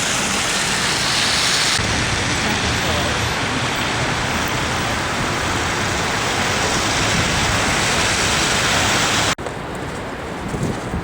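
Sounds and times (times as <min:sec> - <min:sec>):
street traffic: 0:00.0 - 0:11.0
wind: 0:00.0 - 0:11.0.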